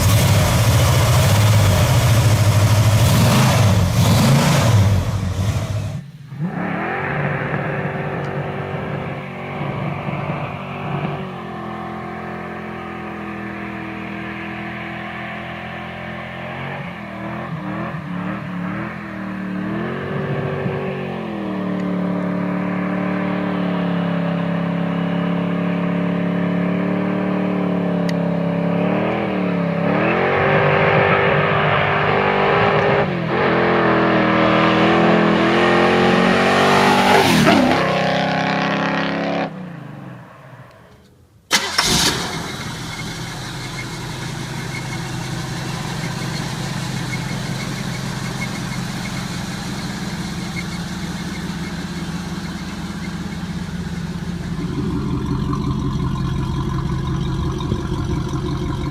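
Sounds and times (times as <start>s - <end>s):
car engine revving: 0.0s - 40.9s, 41.5s - 58.9s.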